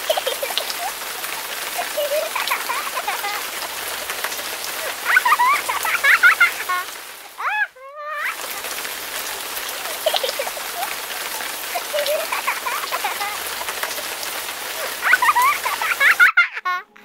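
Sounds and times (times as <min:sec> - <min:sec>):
steady rain falling: 0:00.0 - 0:16.6.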